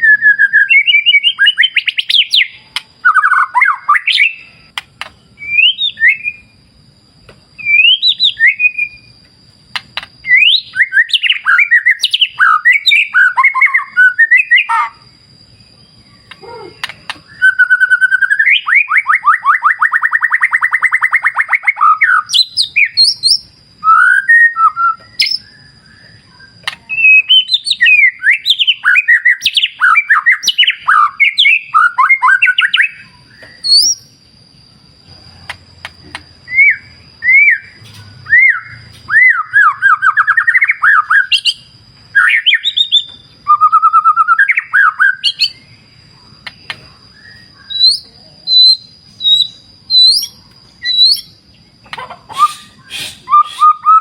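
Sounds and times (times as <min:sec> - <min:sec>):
bird singing whistles and trills: 0:00.0 - 0:06.6, 0:07.6 - 0:34.3, 0:35.3 - 0:54.0.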